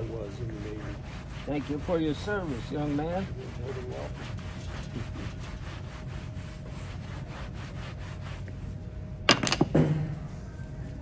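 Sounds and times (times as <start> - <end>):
cloth rag rubbing leather shoe: 0.0 - 9.0.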